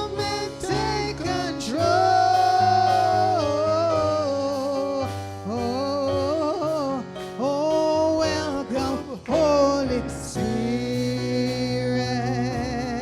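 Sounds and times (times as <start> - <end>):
instrumental backing: 0.0 - 13.0
person singing gospel: 0.0 - 13.0.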